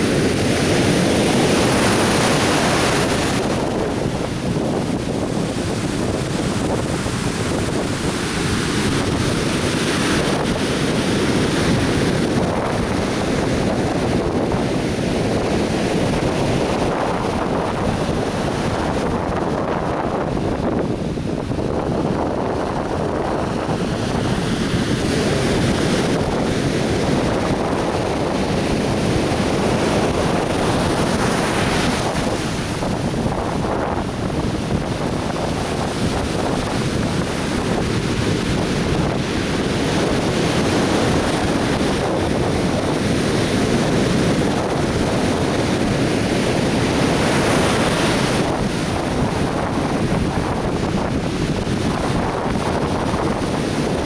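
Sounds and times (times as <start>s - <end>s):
surf washing onto beach: 0.0s - 54.0s
wind rumble on microphone: 0.0s - 54.0s.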